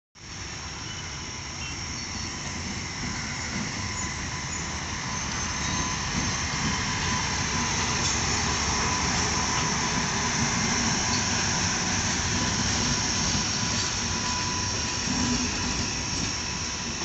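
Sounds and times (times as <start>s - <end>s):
electric locomotive running: 0.2s - 17.0s.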